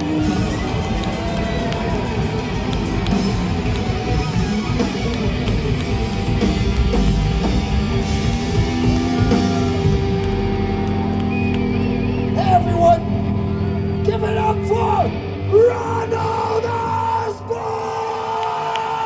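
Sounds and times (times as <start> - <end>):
heavy metal band playing: 0.0 - 18.4.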